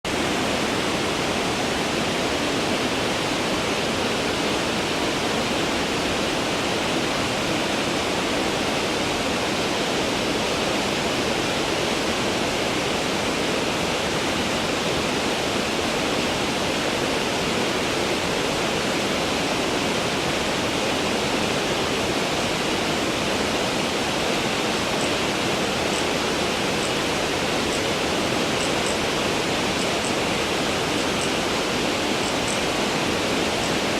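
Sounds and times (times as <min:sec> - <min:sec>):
rushing flowing water: 0:00.0 - 0:33.9.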